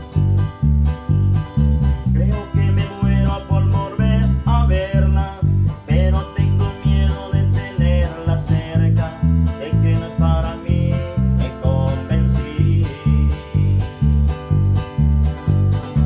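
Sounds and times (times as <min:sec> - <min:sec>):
guitar playing: 0:00.0 - 0:16.0
heavy bass beat: 0:00.0 - 0:16.0.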